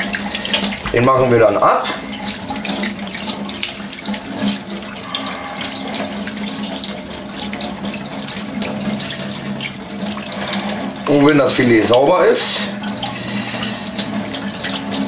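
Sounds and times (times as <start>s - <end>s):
tap water running into metal sink: 0.0s - 15.0s.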